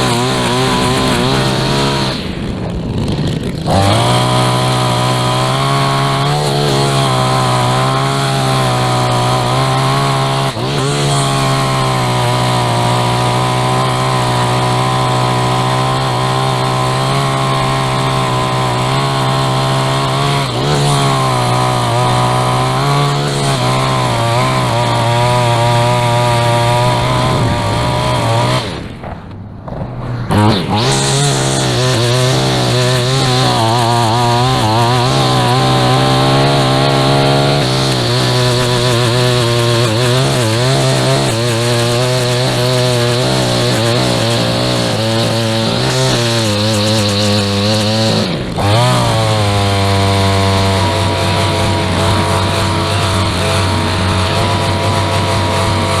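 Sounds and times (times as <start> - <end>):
two-stroke lawn tool engine: 0.0 - 56.0.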